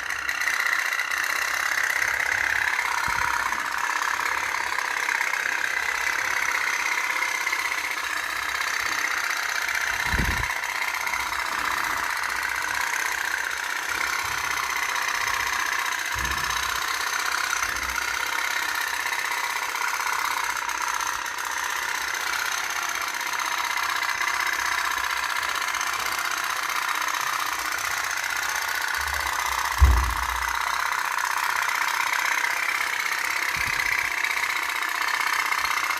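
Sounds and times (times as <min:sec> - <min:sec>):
toy boat engine putting: 0:00.0 - 0:35.9.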